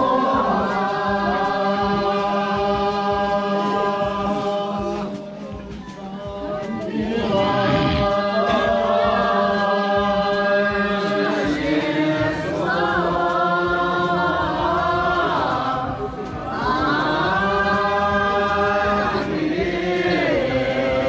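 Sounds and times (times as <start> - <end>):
group of people singing: 0.0 - 21.0.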